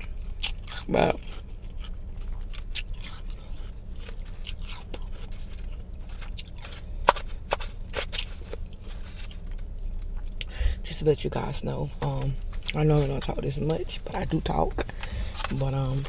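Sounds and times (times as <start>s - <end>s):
chewing crunchy ice: 0.0s - 10.5s, 11.8s - 16.0s.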